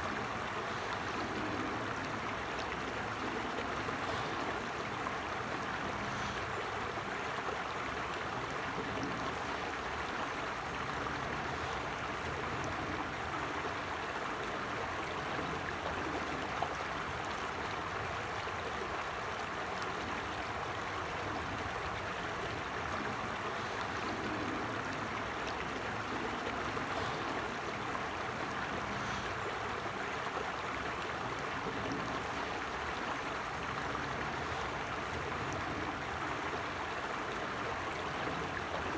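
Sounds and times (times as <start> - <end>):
creek water flowing: 0.0 - 38.9.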